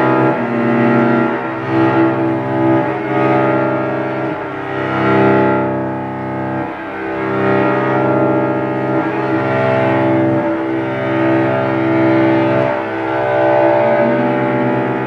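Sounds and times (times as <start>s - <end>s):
bowed cello low notes: 0.0s - 15.0s.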